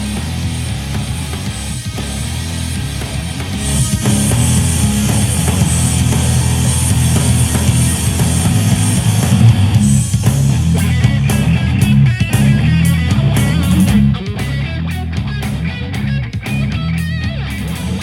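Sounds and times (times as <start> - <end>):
rock music through a speaker: 0.0 - 18.0.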